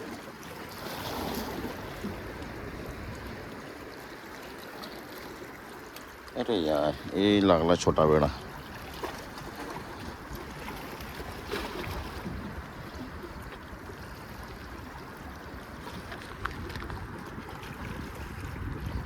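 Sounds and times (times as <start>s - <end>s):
water at the edge: 0.0s - 19.0s
wind: 0.0s - 19.0s.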